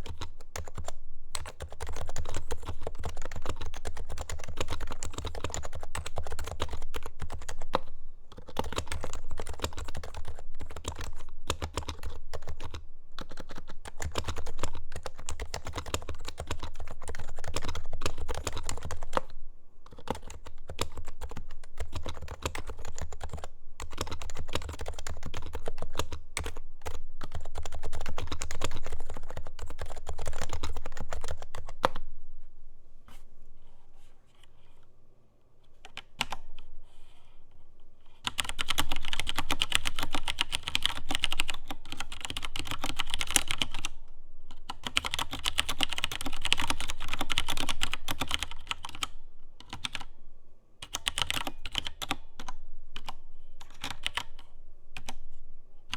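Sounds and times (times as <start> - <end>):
sharp mechanical keyboard typing: 0.0 - 19.3, 19.9 - 32.0, 38.2 - 44.0, 44.6 - 50.1, 50.8 - 54.4
muffled keyboard typing: 0.0 - 32.0, 35.8 - 36.7, 38.2 - 50.1, 50.8 - 55.3.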